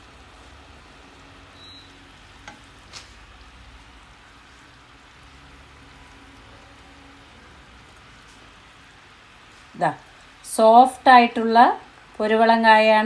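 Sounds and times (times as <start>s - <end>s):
syrup boiling in a pan: 0.0s - 12.3s.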